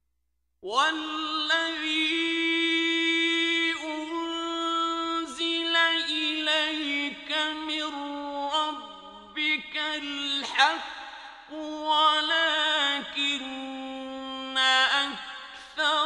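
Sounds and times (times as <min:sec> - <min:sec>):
man reciting in melodic chant: 0:00.6 - 0:16.0.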